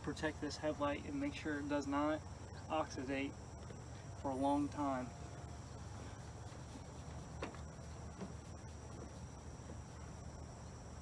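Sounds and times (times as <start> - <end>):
crickets chirring: 0.0 - 11.0
low background hum: 0.0 - 11.0.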